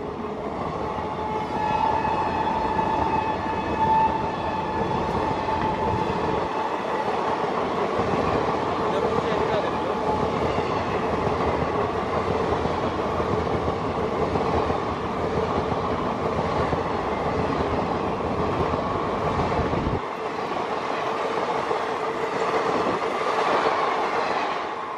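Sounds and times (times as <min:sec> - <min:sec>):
train wheels rumbling on rail: 0:00.0 - 0:24.9.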